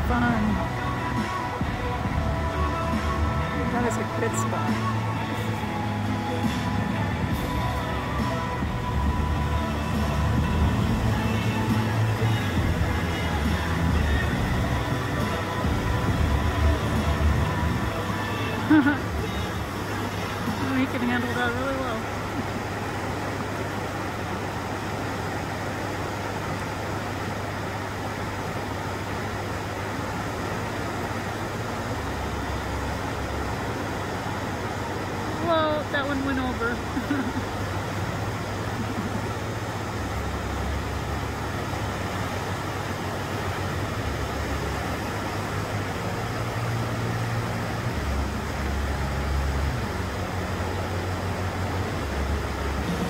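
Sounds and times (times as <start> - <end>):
river rapids roaring: 0.0 - 53.0.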